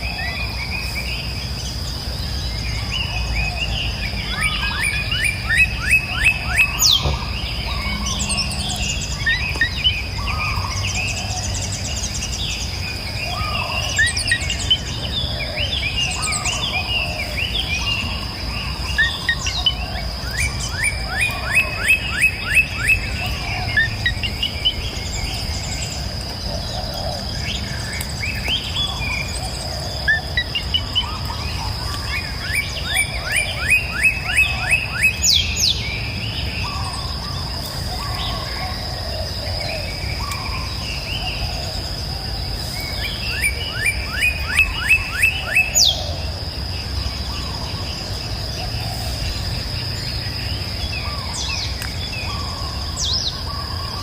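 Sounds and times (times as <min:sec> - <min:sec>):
high-pitched insect drone: 0:00.0 - 0:54.0
soft bird chirps: 0:00.0 - 0:54.0
songbird singing down-slurred notes: 0:00.0 - 0:54.0.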